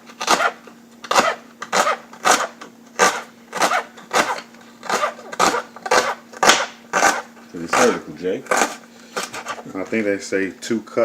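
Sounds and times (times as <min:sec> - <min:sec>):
knife chopping on cutting board: 0:00.2 - 0:09.5.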